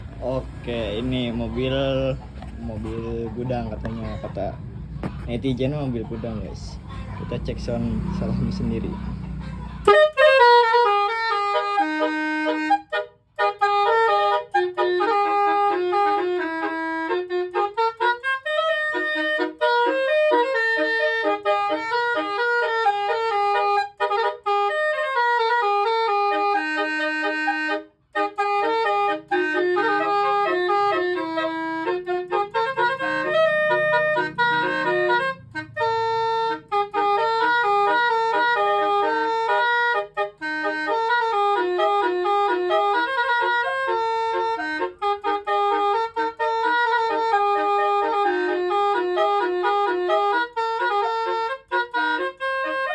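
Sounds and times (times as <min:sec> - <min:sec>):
car melody horn playing a tune: 0:09.8 - 0:52.9.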